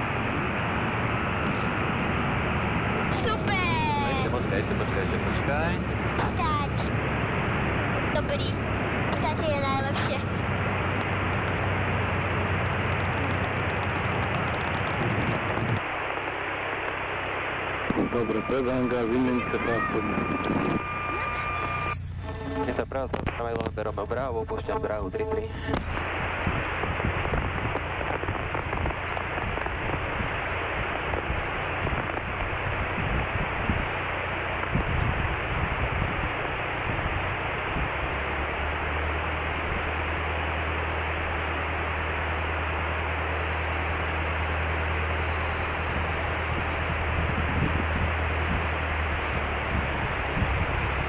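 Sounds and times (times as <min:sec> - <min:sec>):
aircraft engine and airflow rushing: 0:00.0 - 0:51.0
dense crackling noise: 0:00.0 - 0:51.0
low engine hum: 0:00.0 - 0:51.0.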